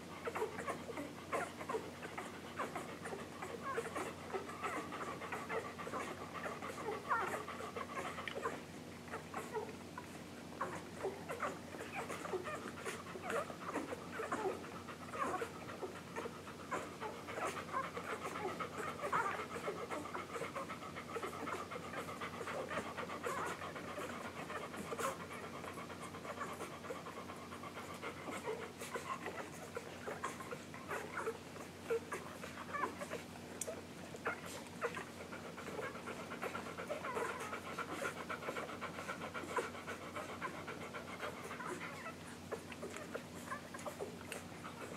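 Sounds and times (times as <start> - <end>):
puppies squeaking and grunting: 0.1 - 44.9
puppies suckling clicks: 0.1 - 44.9.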